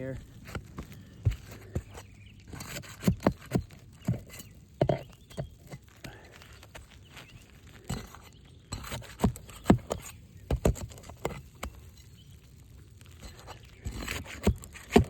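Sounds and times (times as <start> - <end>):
knocks and scrapes on roof shingles: 0.0 - 11.9, 13.0 - 15.0.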